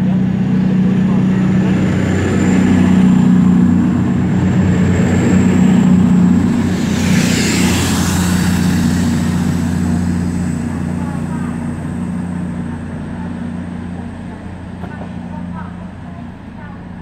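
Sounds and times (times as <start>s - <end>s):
diesel train engines droning: 0.0s - 17.0s
train cars rushing past: 0.0s - 17.0s.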